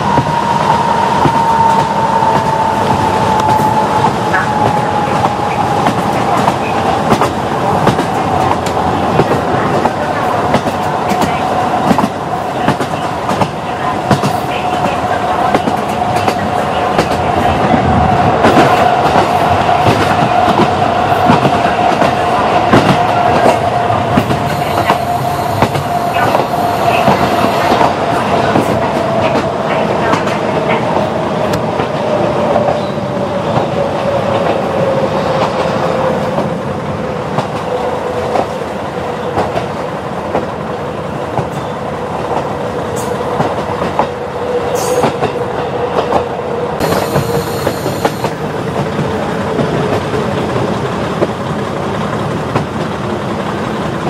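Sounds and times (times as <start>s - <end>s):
diesel railcar running: 0.0s - 54.0s.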